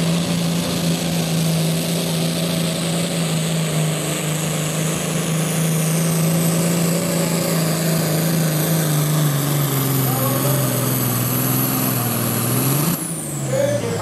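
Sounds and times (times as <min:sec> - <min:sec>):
tractor diesel engine under heavy load: 0:00.0 - 0:14.0.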